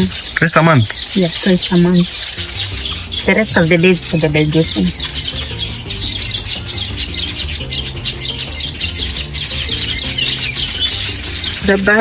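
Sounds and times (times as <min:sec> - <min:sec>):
background music with low notes: 0:00.0 - 0:12.0
small birds chirping: 0:00.0 - 0:12.0.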